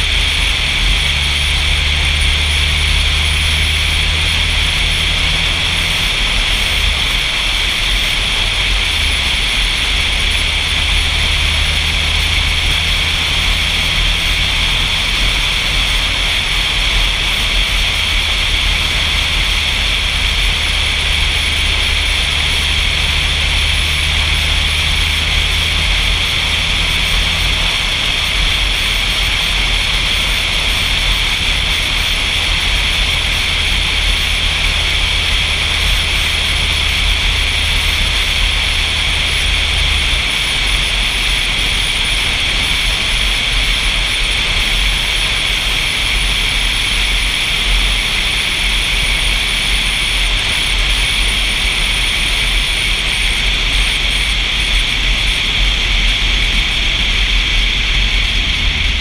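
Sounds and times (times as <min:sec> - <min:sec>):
low car hum: 0:00.0 - 0:59.0.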